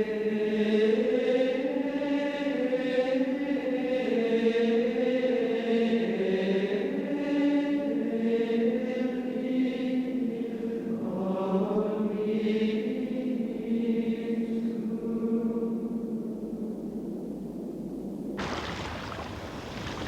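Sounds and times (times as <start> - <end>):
wordless choral chanting: 0.0 - 17.2.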